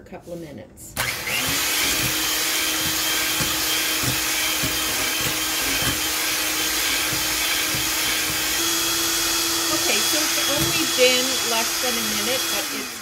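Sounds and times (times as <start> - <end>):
electric hand mixer whisking: 1.0 - 13.0.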